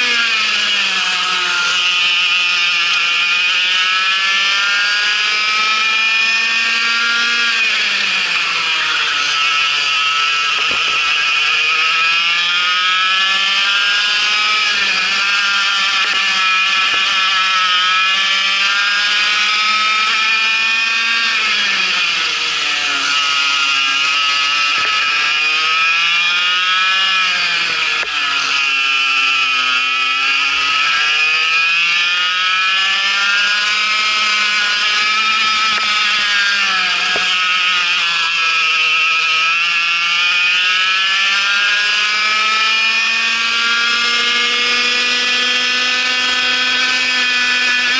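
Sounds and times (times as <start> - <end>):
kart engine running hard: 0.0 - 47.9.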